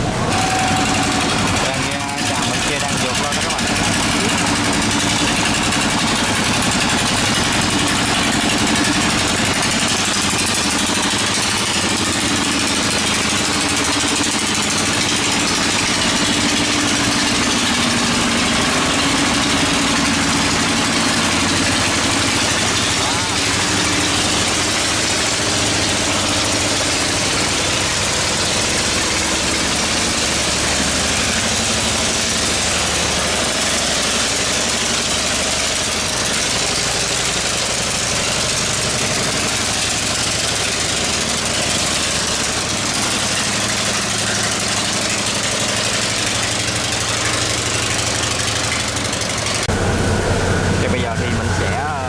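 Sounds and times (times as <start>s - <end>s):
boat engine running loudly: 0.0s - 52.0s.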